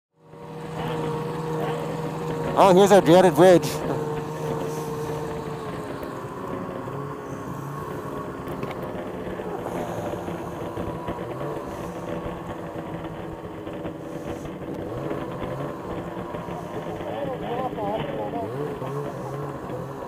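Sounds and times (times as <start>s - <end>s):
snowmobile engine running: 0.1s - 20.0s.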